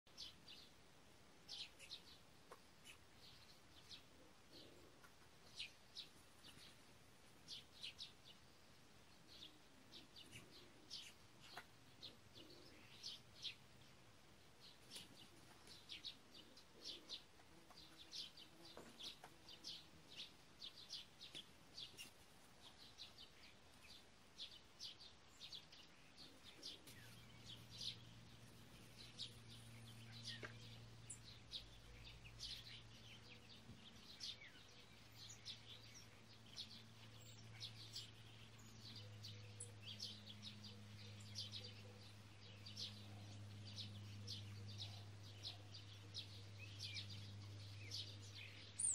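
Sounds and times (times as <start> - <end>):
birds chirping faintly: 0.0 - 48.9.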